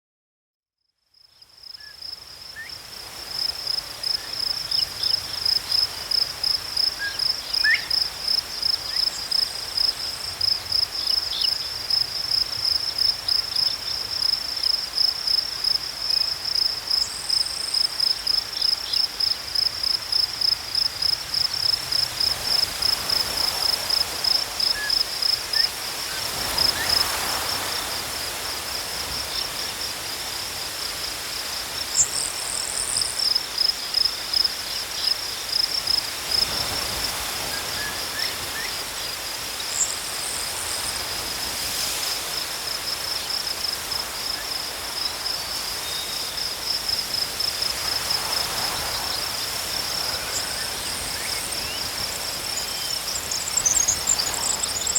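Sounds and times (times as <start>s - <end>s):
crickets chirping: 1.1s - 54.9s.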